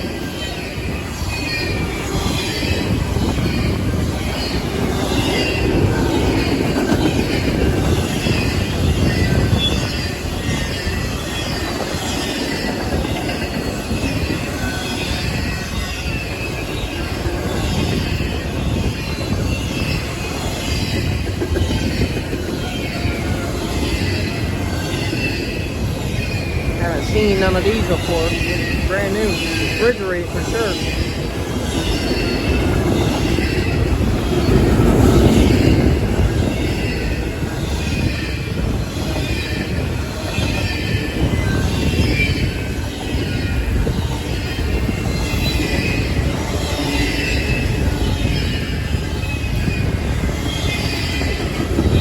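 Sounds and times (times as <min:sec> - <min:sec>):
steel wheels rumbling on rail: 0:00.0 - 0:52.0.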